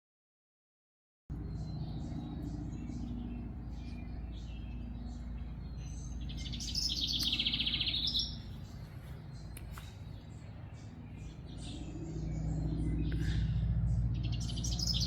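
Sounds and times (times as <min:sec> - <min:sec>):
bird singing rapid trill: 0:01.3 - 0:15.0
songbirds chirping: 0:01.3 - 0:15.0
steady low rumble: 0:01.3 - 0:15.0.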